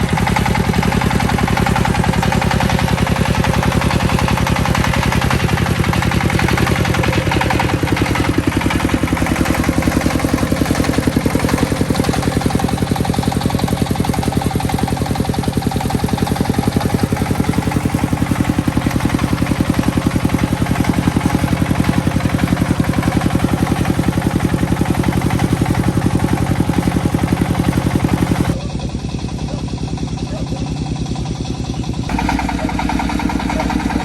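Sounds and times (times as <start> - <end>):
single-cylinder diesel engine chugging: 0.0 - 34.0.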